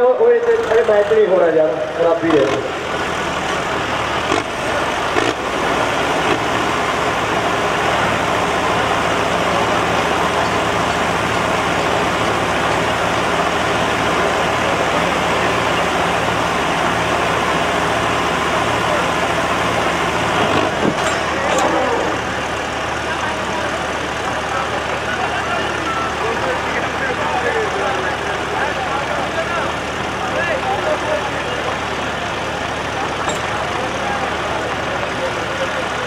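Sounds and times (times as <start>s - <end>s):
tractor engines under load: 0.0s - 36.0s.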